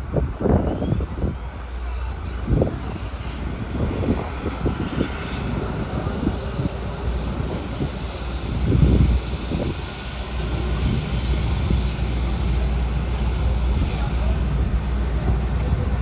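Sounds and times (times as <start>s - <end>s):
helicopter engines whining: 0.0s - 16.0s.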